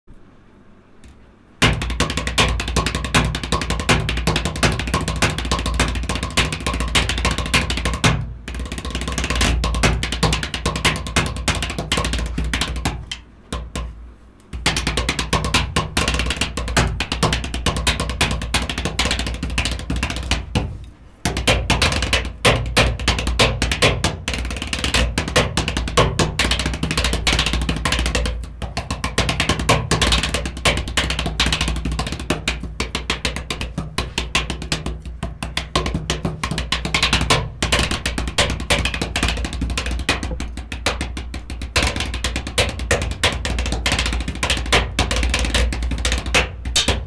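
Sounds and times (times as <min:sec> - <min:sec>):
snare drum rolls on practice pad: 0:01.6 - 0:47.0.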